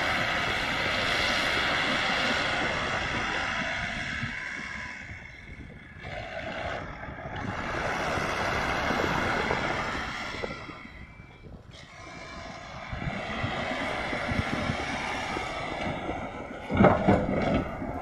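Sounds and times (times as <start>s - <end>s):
backhoe diesel engine working: 0.0s - 18.0s
wind on microphone: 0.0s - 18.0s.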